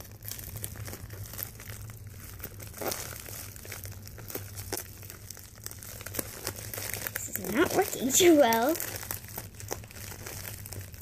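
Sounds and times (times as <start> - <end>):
plastic mailer crinkling: 0.0 - 11.0.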